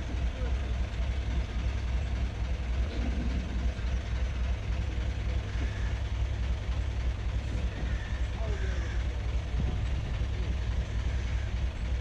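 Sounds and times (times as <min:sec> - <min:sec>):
diesel engine throbbing: 0:00.0 - 0:12.0.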